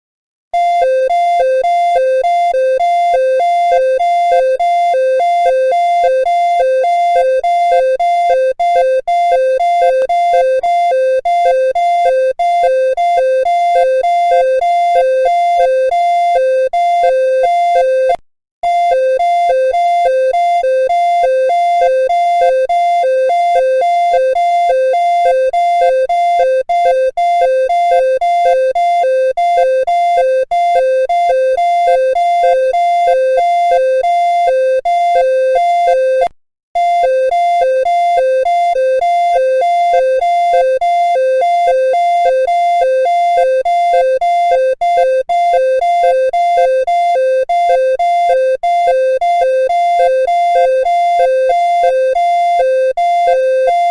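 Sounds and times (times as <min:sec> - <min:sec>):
alternating two-tone electronic alert: 0:00.6 - 0:53.9.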